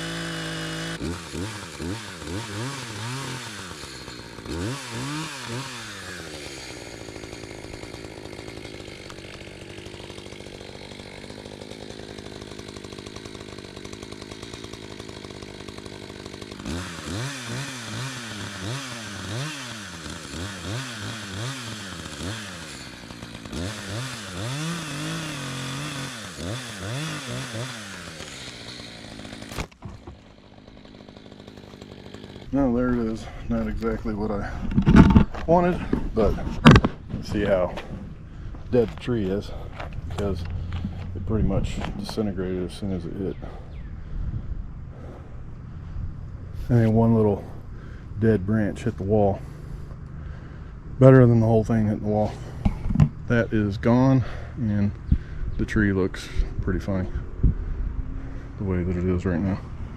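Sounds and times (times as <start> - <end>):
chainsaw revving and cutting: 0.0 - 44.2, 44.8 - 59.9.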